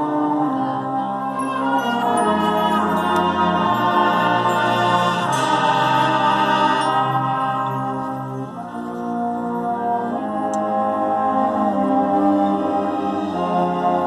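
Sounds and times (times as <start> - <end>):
marching band playing slow chords: 0.1 - 14.0.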